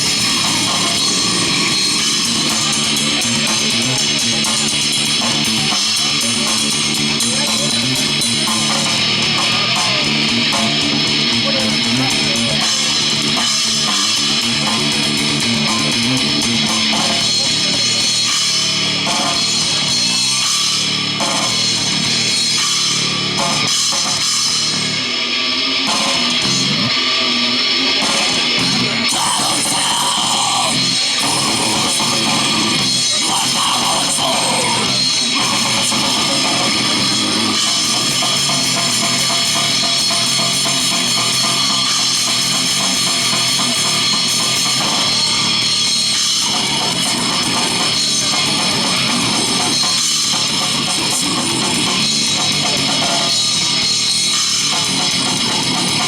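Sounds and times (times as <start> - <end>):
drums: 0.0 - 56.0
electric guitar: 0.0 - 56.0
heavy metal band playing: 0.0 - 56.0.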